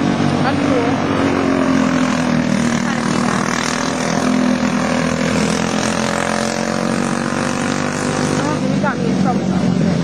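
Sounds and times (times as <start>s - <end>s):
go-kart engines racing: 0.0s - 10.0s.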